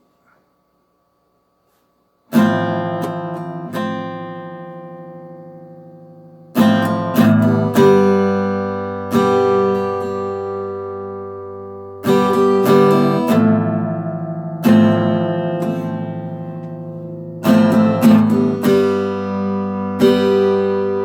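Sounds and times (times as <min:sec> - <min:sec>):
acoustic guitar chords strummed: 0:01.6 - 0:21.0.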